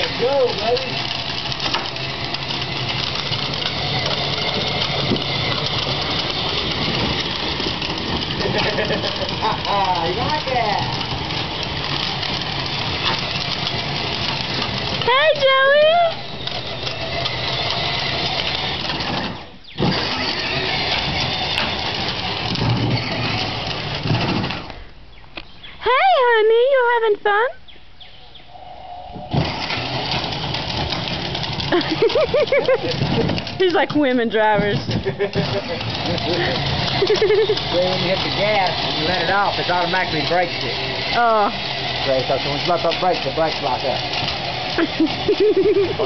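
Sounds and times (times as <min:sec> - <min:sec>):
electric motor whirring hum: 0:00.0 - 0:25.0, 0:28.2 - 0:46.0
plastic wheels rolling rattle: 0:00.0 - 0:25.5, 0:29.2 - 0:46.0.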